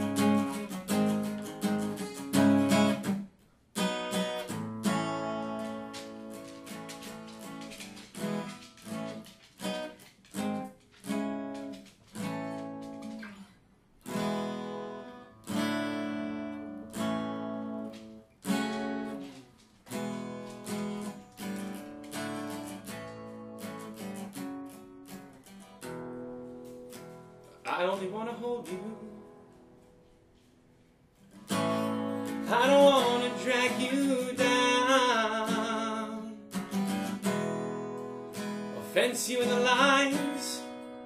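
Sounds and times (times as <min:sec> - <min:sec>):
acoustic guitar strummed chords: 0:00.0 - 0:13.4, 0:14.0 - 0:30.5, 0:31.3 - 0:41.0.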